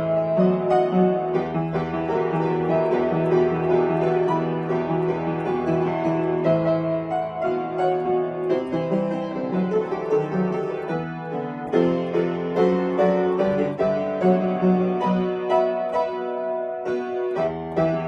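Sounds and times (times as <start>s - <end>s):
solo piano: 0.0s - 18.0s.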